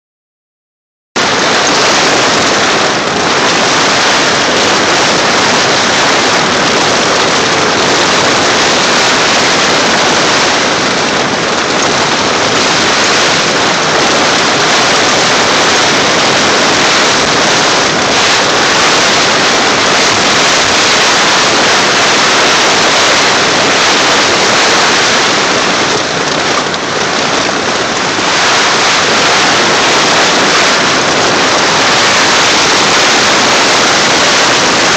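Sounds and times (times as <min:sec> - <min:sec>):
heavy rain: 0:01.2 - 0:34.9
wind: 0:01.2 - 0:34.9.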